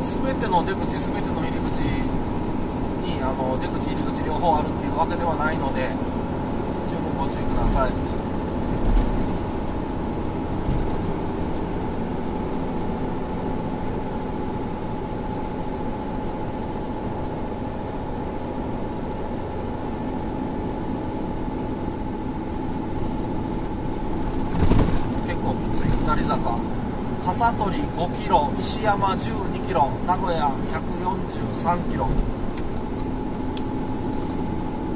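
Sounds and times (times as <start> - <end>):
car road and engine noise: 0.0 - 34.9
steady whine: 0.0 - 34.9.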